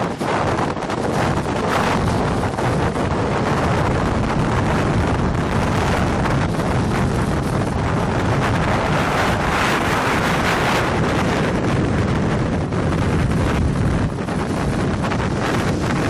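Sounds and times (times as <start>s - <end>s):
strong wind blasting microphone: 0.0s - 16.0s.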